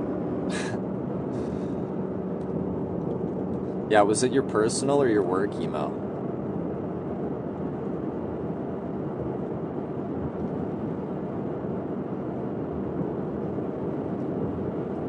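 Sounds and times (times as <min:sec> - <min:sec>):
road and engine noise inside car: 0:00.0 - 0:15.0.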